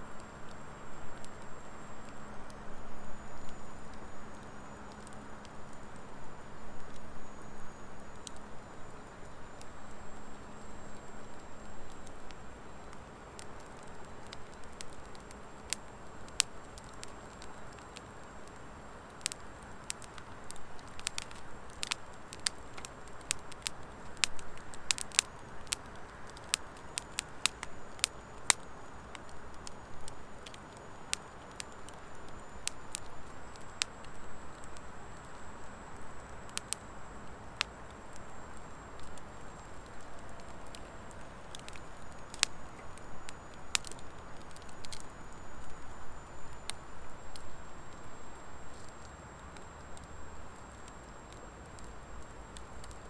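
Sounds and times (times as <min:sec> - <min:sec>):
soft hiss of flames: 0:00.0 - 0:53.0
wood fire crackling and popping: 0:00.0 - 0:53.0.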